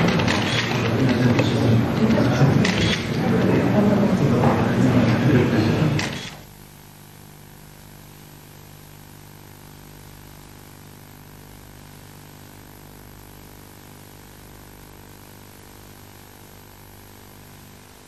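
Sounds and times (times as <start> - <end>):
constant hiss: 0.0 - 18.0.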